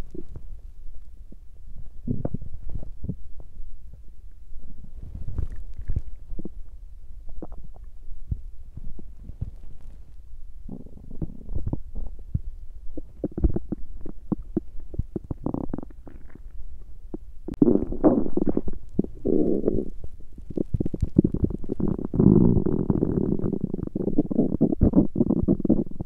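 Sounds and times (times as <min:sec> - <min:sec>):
stomach growling and gurgling: 0:00.0 - 0:00.6, 0:01.3 - 0:26.0.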